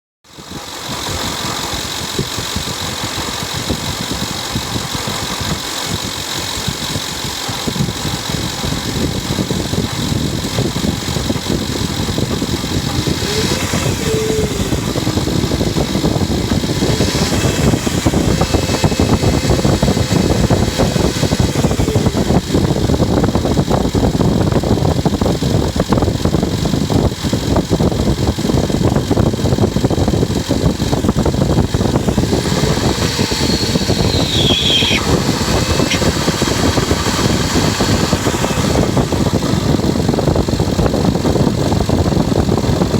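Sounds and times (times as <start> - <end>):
engine running with rapid clatter: 0.3 - 42.9.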